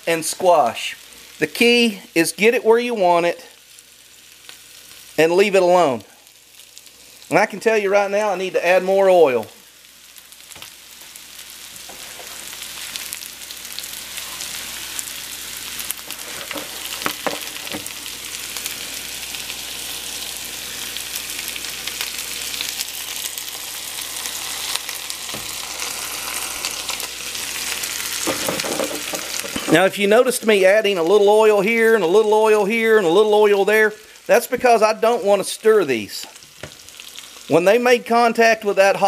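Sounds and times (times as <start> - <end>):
vegetables sizzling in oil: 0.0 - 37.8.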